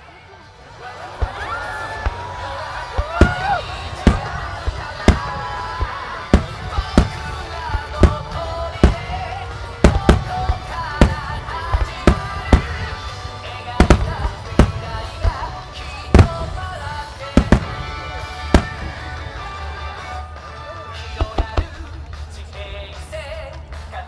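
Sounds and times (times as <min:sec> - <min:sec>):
fireworks bangs: 0:01.1 - 0:20.4, 0:21.0 - 0:22.0.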